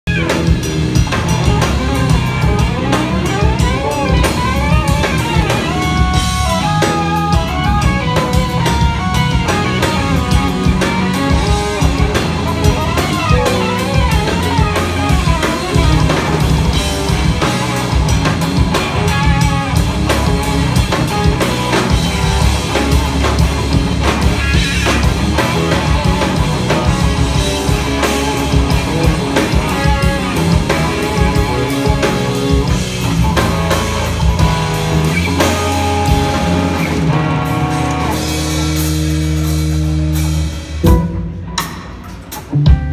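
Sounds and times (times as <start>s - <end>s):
busy drumming: 0.0s - 42.9s
electric guitar lead: 0.0s - 42.9s
heavy bass line: 0.0s - 42.9s.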